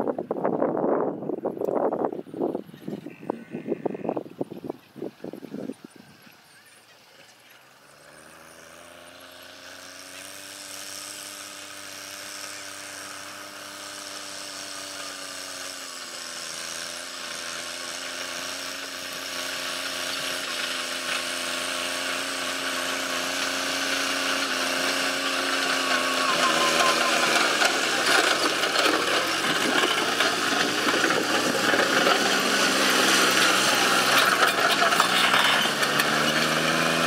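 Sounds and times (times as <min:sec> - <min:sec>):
tractor diesel engine running: 0:04.6 - 0:37.0.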